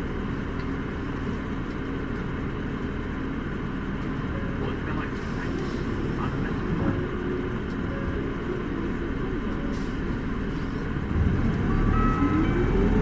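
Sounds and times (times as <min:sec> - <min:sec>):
bus diesel engine: 0:00.0 - 0:13.0
road noise: 0:00.0 - 0:13.0.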